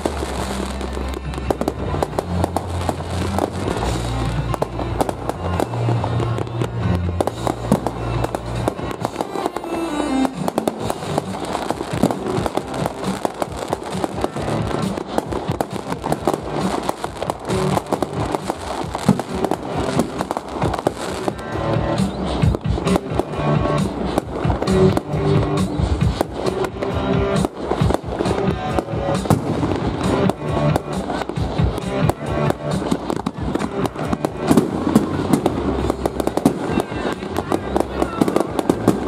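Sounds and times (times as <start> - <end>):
fireworks bangs and crackling: 0.0 - 39.0
music with heavy bass: 0.0 - 39.0.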